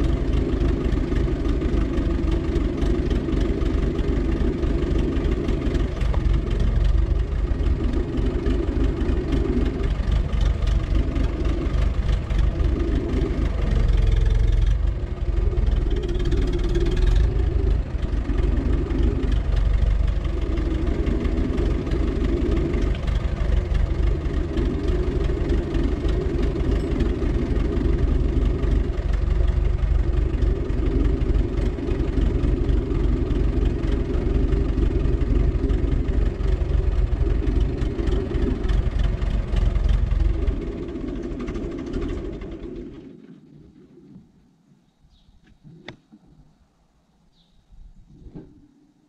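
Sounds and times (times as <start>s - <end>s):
diesel engine idling: 0.0s - 43.6s.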